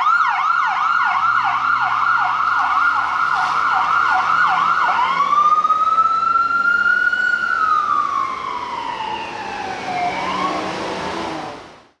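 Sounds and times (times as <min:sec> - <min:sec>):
ambulance siren wailing: 0:00.0 - 0:11.6.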